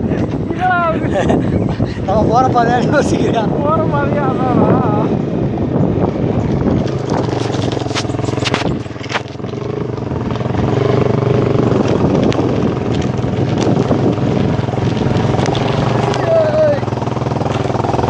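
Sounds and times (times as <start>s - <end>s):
motorcycle engine: 3.5s - 18.0s.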